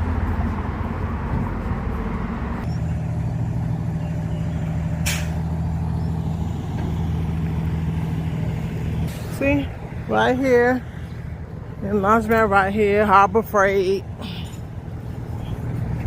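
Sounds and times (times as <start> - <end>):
large vehicle engine drone: 0.0 - 16.0.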